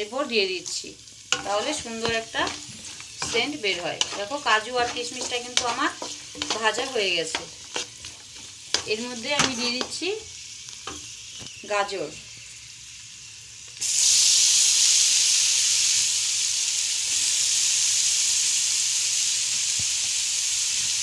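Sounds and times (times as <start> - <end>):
ghee sizzling with frying nuts: 0.0 - 21.0
loud sizzle of carrot in ghee: 0.0 - 21.0.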